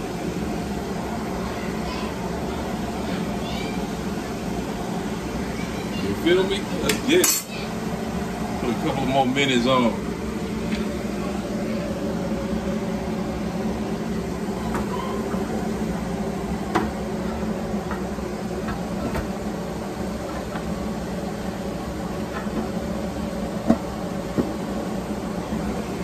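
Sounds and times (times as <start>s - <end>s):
appliance fan hum: 0.0s - 26.0s.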